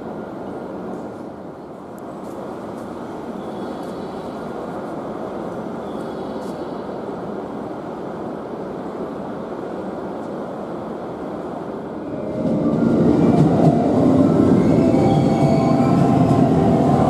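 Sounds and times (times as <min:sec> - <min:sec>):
passing train rumble: 0:00.0 - 0:17.0
rising steady train tones: 0:00.0 - 0:17.0.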